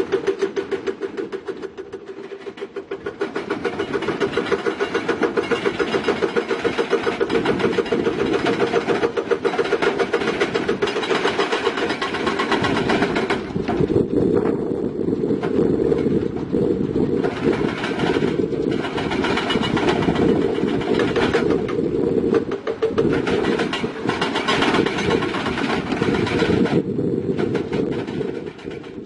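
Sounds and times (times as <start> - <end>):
heavy diesel engine pulsing: 0.0 - 29.0.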